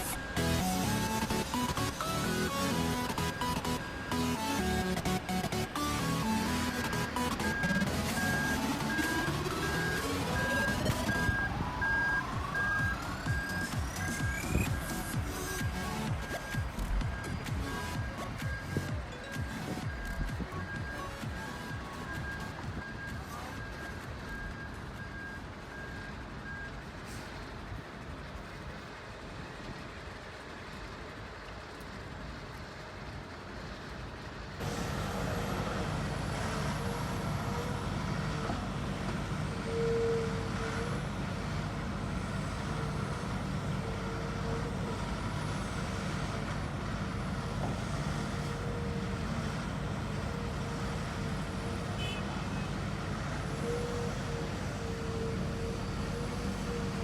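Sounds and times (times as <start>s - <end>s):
truck-like engine drone: 0.0s - 57.0s.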